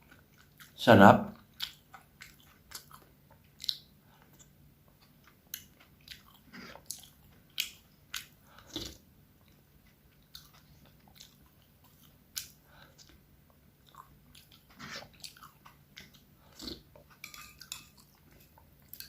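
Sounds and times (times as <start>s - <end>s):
person chewing with mouth smacks: 0.0s - 0.8s, 1.4s - 19.0s.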